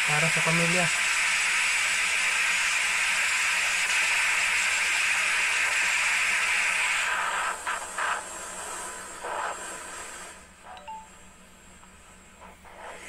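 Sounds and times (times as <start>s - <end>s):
engine-room machinery hissing drone: 0.0s - 10.6s.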